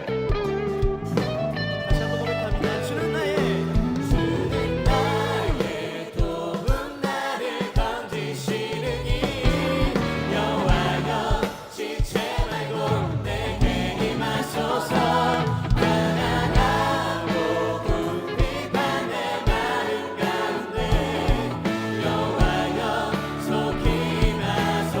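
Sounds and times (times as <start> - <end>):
full band playing: 0.0 - 7.2, 8.7 - 25.0
steady drum beat: 0.3 - 25.0
group singing praise song: 2.0 - 25.0.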